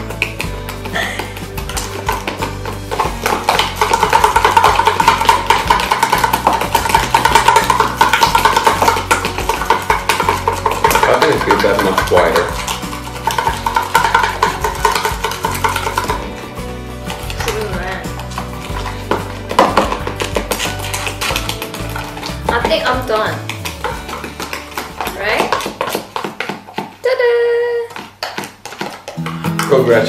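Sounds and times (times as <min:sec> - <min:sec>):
spoons clicking against plastic tubs: 0:00.0 - 0:26.7
background music: 0:00.0 - 0:27.9, 0:28.8 - 0:30.0.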